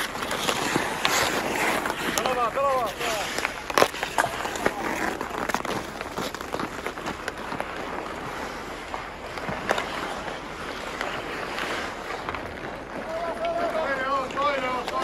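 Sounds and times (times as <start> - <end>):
hockey sticks clacking: 0.0 - 15.0
ice skates scraping on ice: 0.0 - 15.0.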